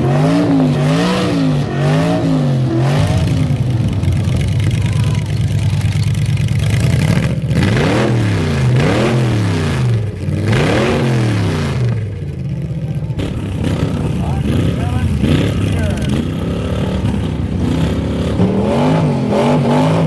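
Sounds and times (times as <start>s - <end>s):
vehicle engine idling and revving: 0.0s - 20.0s.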